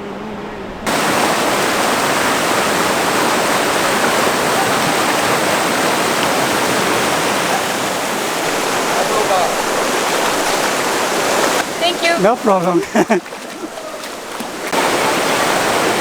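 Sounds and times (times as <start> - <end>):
rushing river water: 0.8 - 16.0.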